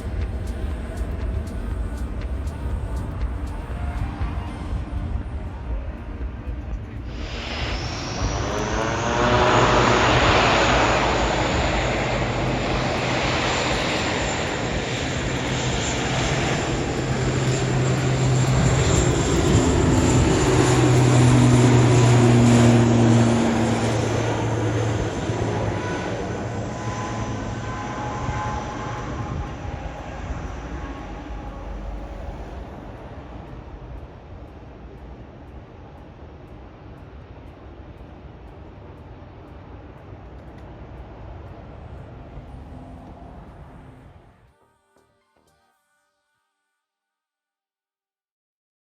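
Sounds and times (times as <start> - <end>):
airliner engine noise: 0.0 - 44.4.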